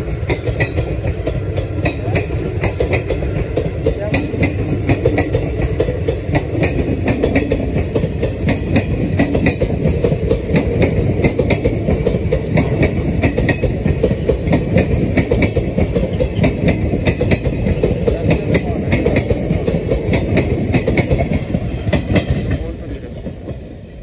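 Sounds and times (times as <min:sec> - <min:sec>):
train wheels rumbling on rails: 0:00.0 - 0:24.0
wheels clicking and clattering: 0:02.6 - 0:22.6.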